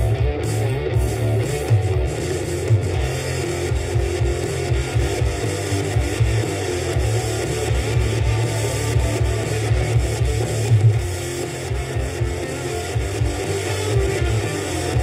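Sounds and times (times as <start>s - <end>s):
strummed guitar music with beat: 0.0s - 15.0s.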